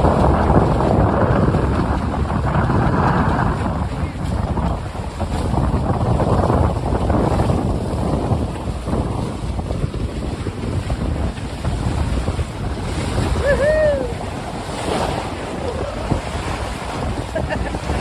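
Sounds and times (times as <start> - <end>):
water splashing along hulls: 0.0 - 18.0
wind buffeting microphone: 0.0 - 18.0.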